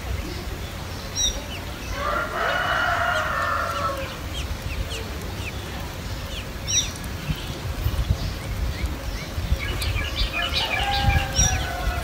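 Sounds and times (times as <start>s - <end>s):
nestlings begging chatter: 0.2s - 12.0s.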